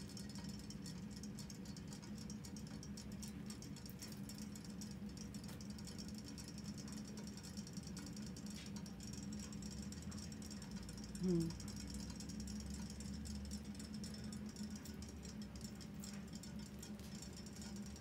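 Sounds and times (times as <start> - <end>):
low steady hum: 0.0 - 18.0
toy motors ticking: 0.0 - 18.0.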